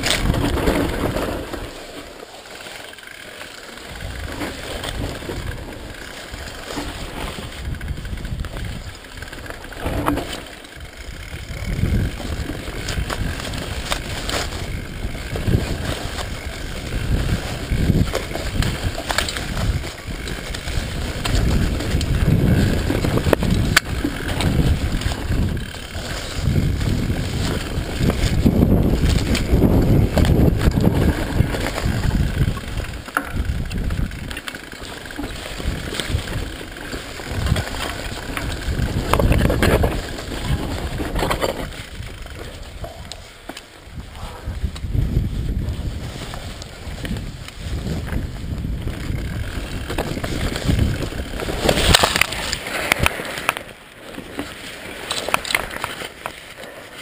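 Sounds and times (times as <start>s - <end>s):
wind on microphone: 0.0s - 1.7s, 3.9s - 53.8s
bike rattling over bumps: 0.0s - 57.0s
bike tyres rumbling over dirt: 0.0s - 57.0s.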